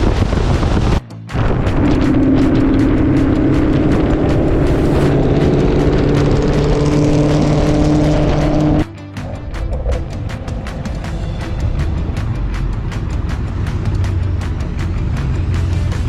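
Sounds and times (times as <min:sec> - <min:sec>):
car engine drone: 0:00.0 - 0:16.0
wind and road noise: 0:00.0 - 0:16.0.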